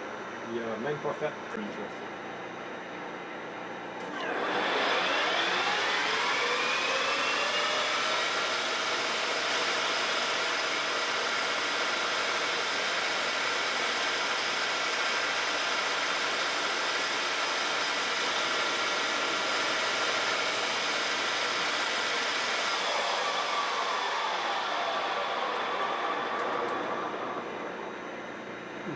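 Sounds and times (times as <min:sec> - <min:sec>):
metal lathe motor whine: 0:04.0 - 0:28.8.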